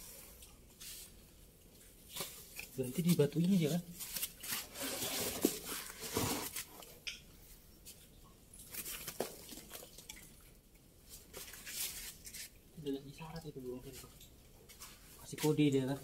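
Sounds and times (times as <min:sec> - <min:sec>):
rustling and scraping: 0:00.0 - 0:10.1, 0:11.0 - 0:12.6, 0:13.9 - 0:16.0.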